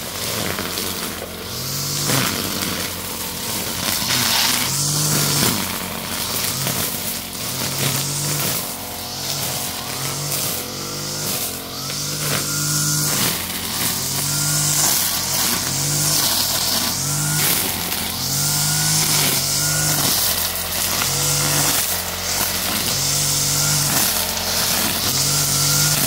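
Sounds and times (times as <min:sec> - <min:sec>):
brush cutter engine revving: 0:00.0 - 0:26.0.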